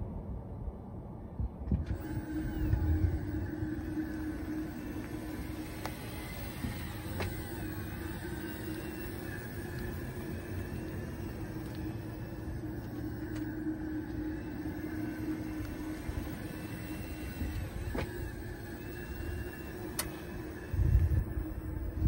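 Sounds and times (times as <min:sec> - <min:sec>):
highway traffic rumble: 0:00.0 - 0:22.0
electronic warning hum: 0:01.9 - 0:22.0.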